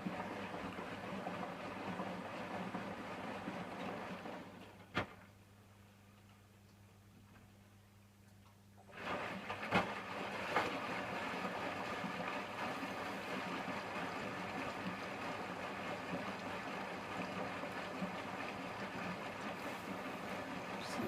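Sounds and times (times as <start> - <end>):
water rushing in washing machine: 0.0 - 5.3, 8.8 - 21.0.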